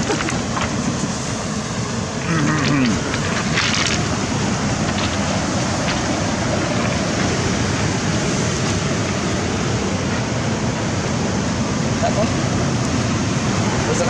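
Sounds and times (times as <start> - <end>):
sea surf: 0.0 - 14.0
wind noise: 0.0 - 14.0.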